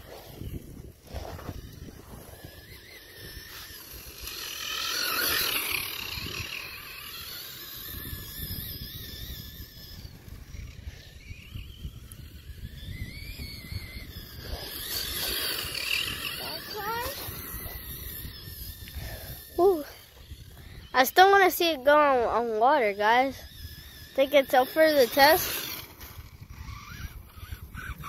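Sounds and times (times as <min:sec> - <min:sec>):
remote-control car motor whining: 0:00.0 - 0:28.0.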